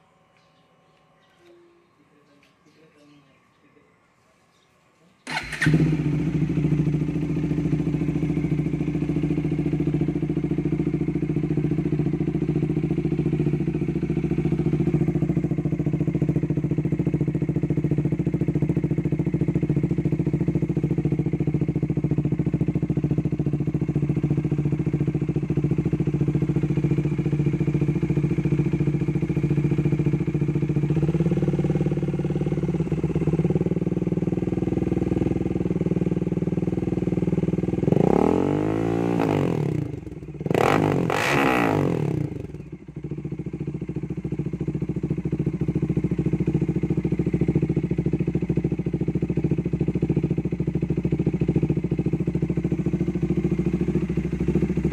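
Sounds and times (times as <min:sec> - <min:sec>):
motorcycle engine idling: 0:05.2 - 0:54.9.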